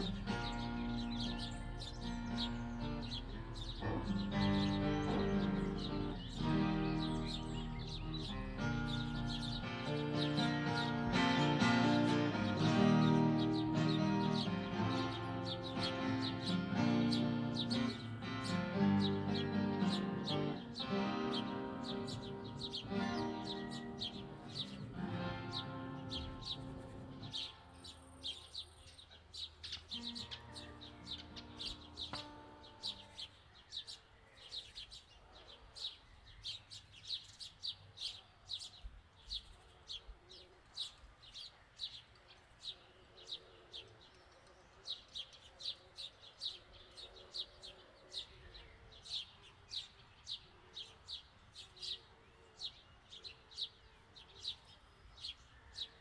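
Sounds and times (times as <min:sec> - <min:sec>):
small bird chirping: 0:00.0 - 0:56.0.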